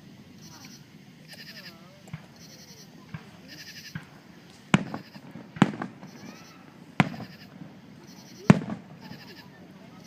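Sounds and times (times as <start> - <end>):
fireworks exploding: 1.8 - 10.0.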